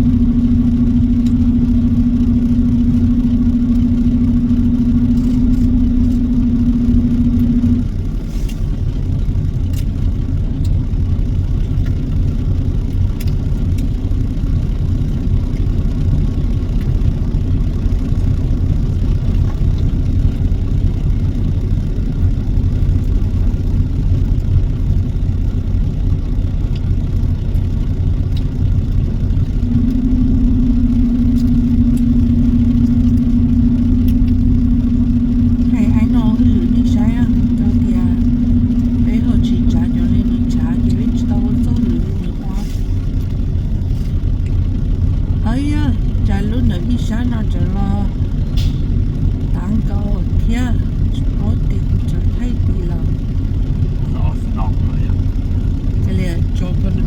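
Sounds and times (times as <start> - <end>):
steady hum: 0.0 - 57.0
truck engine and road drone: 0.0 - 57.0.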